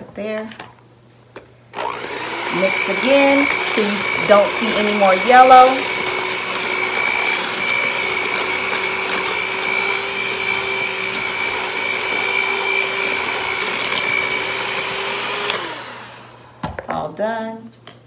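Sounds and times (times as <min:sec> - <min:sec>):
electric hand mixer running: 0:01.7 - 0:16.7.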